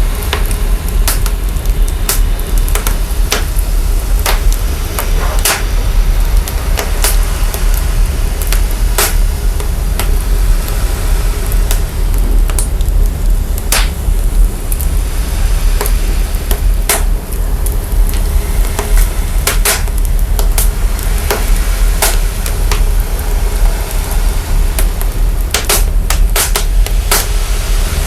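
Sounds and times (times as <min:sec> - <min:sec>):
fire crackling: 0:00.0 - 0:28.0
heavy sub-bass rumble: 0:00.0 - 0:28.0
sharp pops and snaps: 0:00.2 - 0:10.8, 0:11.4 - 0:15.0, 0:15.8 - 0:23.1, 0:24.8 - 0:27.3.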